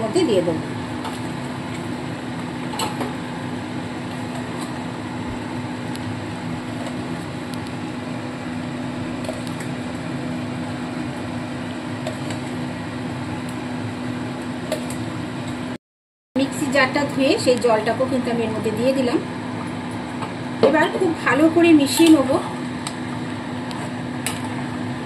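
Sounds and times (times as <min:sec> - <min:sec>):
steady mechanical hum: 0:00.0 - 0:15.8, 0:16.4 - 0:25.0.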